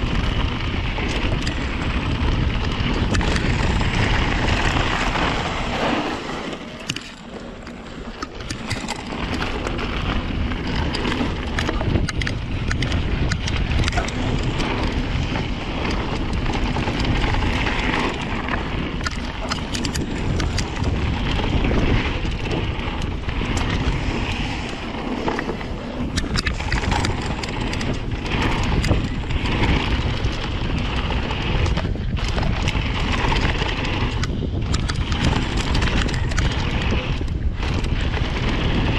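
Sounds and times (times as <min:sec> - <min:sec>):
bike rattling: 0:00.0 - 0:38.9
tyres rolling over dirt: 0:00.0 - 0:38.9
wind rushing over microphone: 0:00.0 - 0:38.9.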